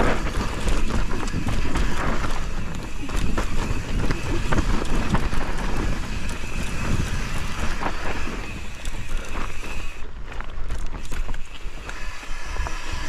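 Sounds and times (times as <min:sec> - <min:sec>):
bike rattling clicks: 0:00.0 - 0:13.0
tyres on dirt and loose rock: 0:00.0 - 0:13.0
wind buffeting microphone: 0:00.0 - 0:13.0.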